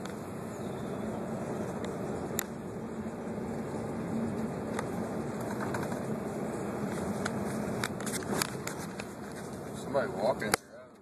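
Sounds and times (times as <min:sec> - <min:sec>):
road rumble: 0:00.0 - 0:11.0
vehicle engine drone: 0:00.0 - 0:11.0.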